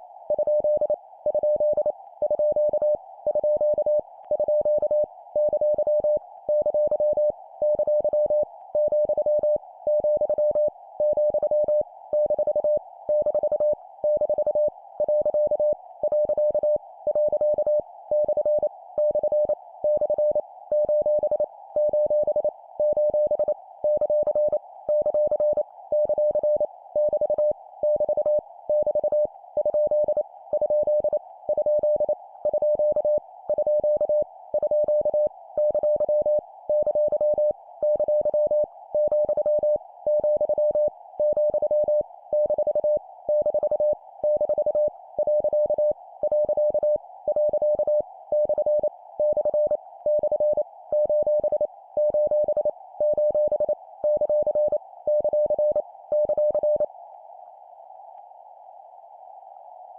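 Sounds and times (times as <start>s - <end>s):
morse code beeps: 0.3s - 56.8s.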